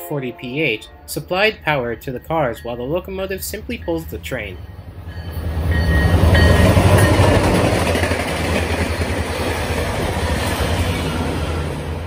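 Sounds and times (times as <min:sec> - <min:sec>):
locomotive engine rumble: 0:00.0 - 0:12.0
train coaches rolling on rails: 0:00.0 - 0:12.0.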